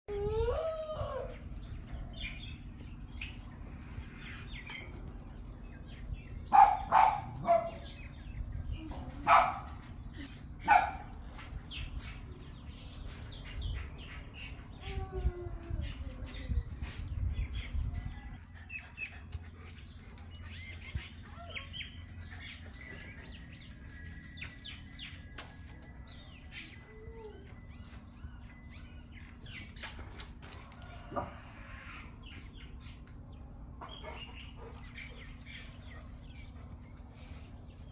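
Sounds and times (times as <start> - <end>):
birds calling and chirping: 0.1 - 37.9.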